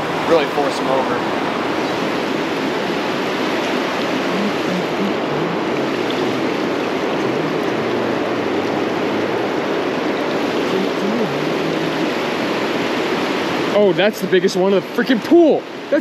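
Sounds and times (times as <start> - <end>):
river water rushing over boulders: 0.0 - 16.0.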